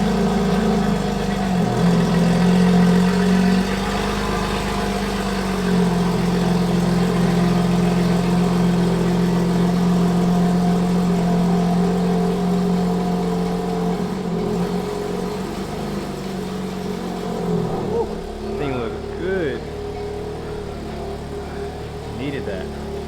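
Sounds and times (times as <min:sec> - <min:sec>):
car engine running steadily: 0:00.0 - 0:23.0.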